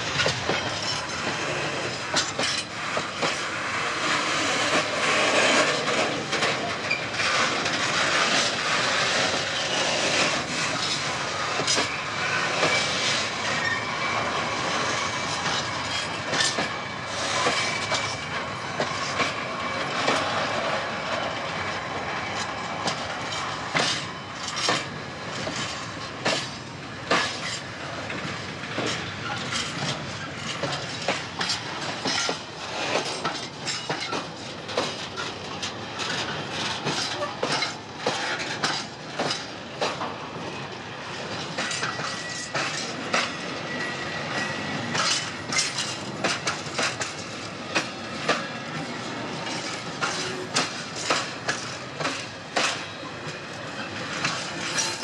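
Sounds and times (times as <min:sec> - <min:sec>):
wheels clattering over rail joints: 0:00.0 - 0:03.5, 0:04.4 - 0:13.9, 0:22.4 - 0:40.2, 0:41.2 - 0:55.0
train wheels rumbling on rail: 0:00.0 - 0:55.0.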